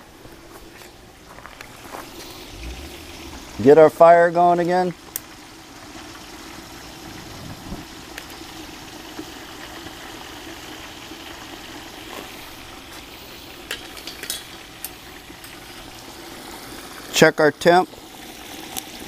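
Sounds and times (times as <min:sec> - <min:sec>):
oil bubbling and sizzling: 0:00.0 - 0:19.0.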